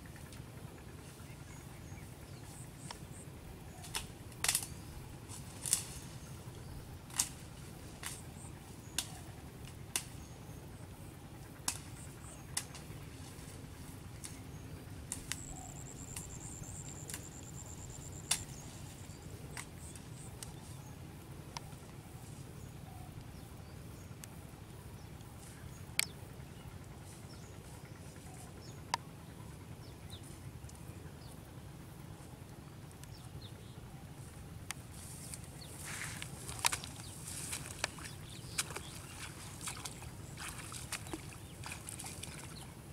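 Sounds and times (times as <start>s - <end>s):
low background noise: 0.0s - 42.9s.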